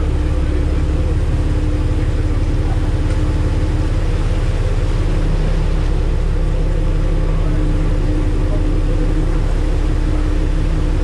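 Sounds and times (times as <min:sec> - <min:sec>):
boat engines droning: 0:00.0 - 0:11.0.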